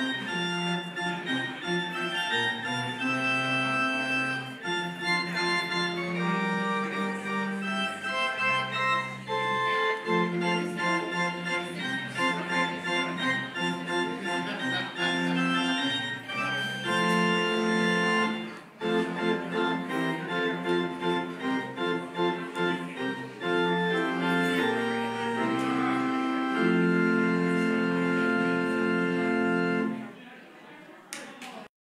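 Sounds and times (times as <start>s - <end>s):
organ playing chords: 0.0s - 30.2s.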